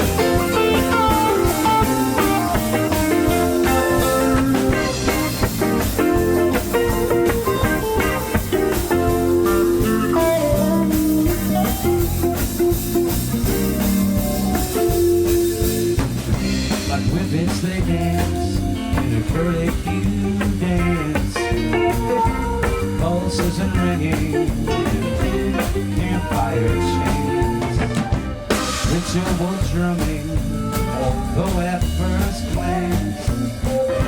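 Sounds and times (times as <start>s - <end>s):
live blues-rock band playing: 0.0s - 34.0s.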